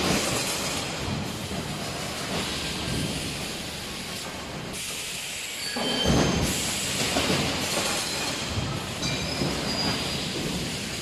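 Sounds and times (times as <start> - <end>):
compressed air hiss: 0.0 - 8.9.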